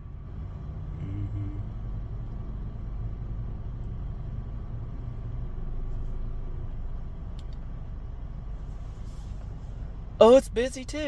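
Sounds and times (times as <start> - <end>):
low hum: 0.0 - 10.2
low mechanical rumble: 0.0 - 11.0.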